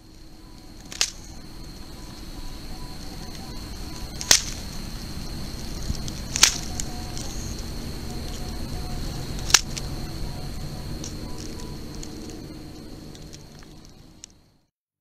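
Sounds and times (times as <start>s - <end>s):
night insects droning: 0.0s - 14.7s
sharp clicks: 0.1s - 14.4s.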